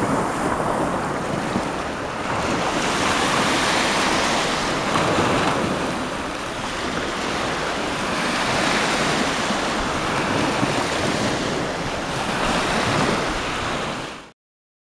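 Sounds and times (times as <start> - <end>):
wind buffeting microphone: 0.0 - 14.2
waves breaking in surf: 0.0 - 14.3.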